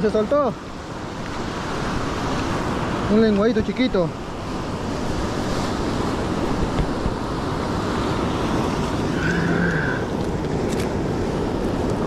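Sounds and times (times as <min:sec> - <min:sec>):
ocean surf on sandy beach: 0:00.0 - 0:12.0
wind buffeting microphone: 0:00.0 - 0:12.0.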